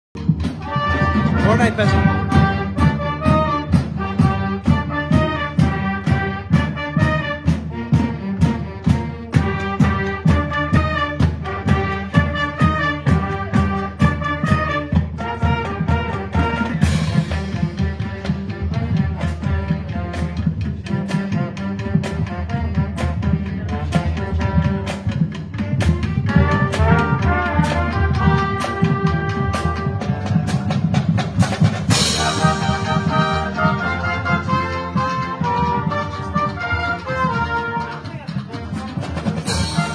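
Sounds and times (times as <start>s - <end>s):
brass band playing: 0.2s - 39.9s
drumline: 0.2s - 39.9s.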